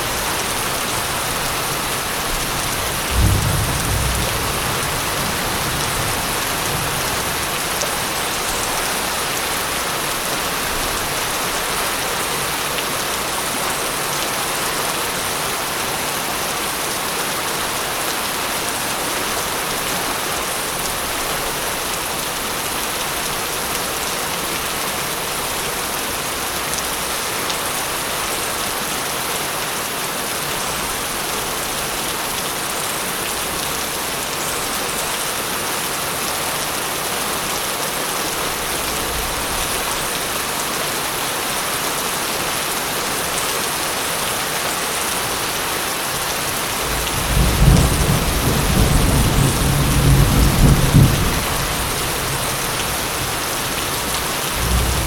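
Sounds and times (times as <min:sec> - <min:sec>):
heavy rain on hard surface: 0:00.0 - 0:55.0.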